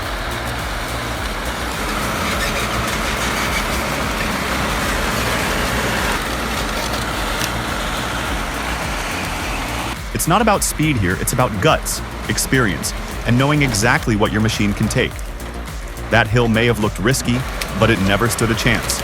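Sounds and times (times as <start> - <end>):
heavy tracked machine engine running: 0.0 - 19.0.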